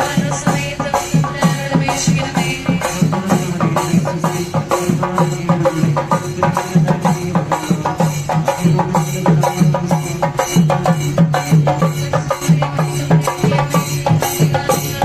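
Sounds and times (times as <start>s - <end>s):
cymbals ringing: 0.0s - 15.0s
drums beaten fast and loud: 0.0s - 15.0s.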